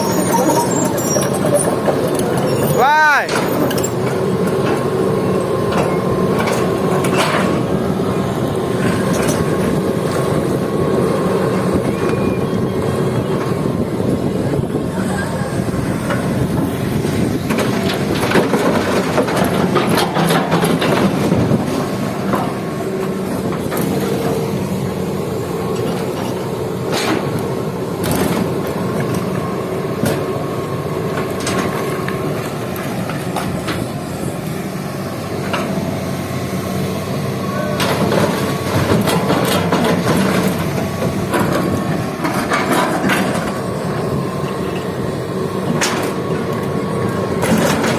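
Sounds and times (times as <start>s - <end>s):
excavator diesel engine: 0.0s - 47.9s.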